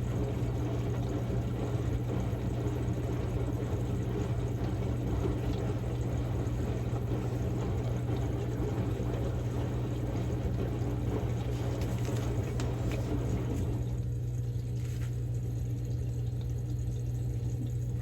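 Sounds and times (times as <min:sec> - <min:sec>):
washing machine motor hum: 0:00.0 - 0:18.0
water sloshing in drum: 0:00.0 - 0:18.0.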